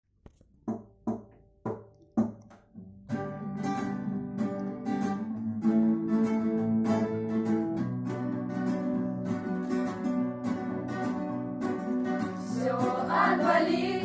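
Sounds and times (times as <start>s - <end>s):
acoustic guitar strumming: 2.2s - 14.0s.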